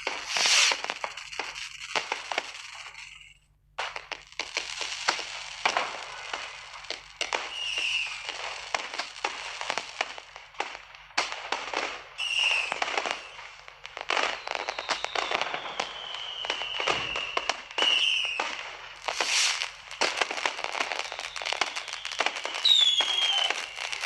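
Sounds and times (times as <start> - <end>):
fireworks cracks and bangs: 0.0 - 24.0
fireworks whistles falling in pitch: 0.0 - 24.0.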